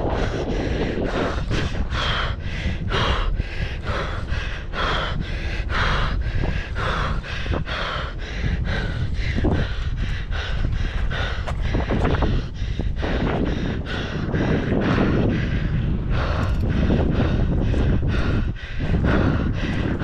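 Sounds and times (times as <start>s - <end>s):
man panting hard: 0.0s - 20.0s
wind rumble on microphone: 0.0s - 20.0s.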